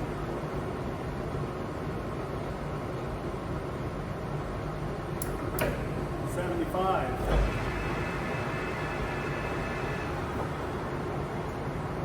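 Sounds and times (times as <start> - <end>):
lathe whirring with low hum: 0.0 - 12.0.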